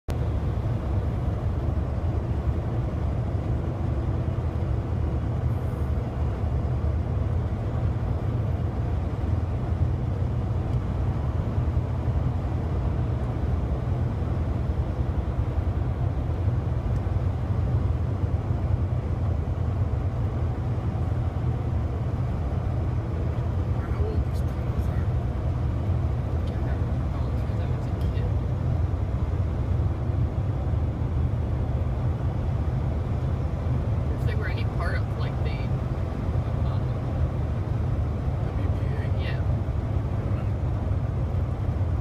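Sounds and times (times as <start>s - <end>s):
car road and engine rumble: 0.1s - 42.0s.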